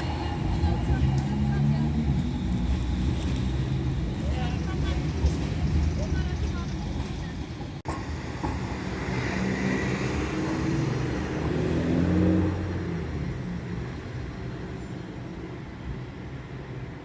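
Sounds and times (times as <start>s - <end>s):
tram passing: 0.0s - 17.0s.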